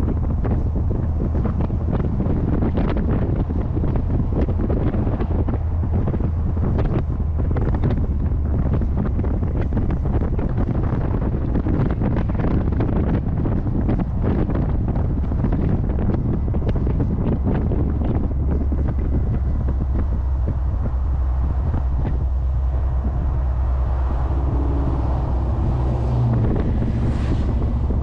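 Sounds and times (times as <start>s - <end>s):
low car rumble: 0.0s - 28.0s
wind buffeting microphone: 0.0s - 28.0s.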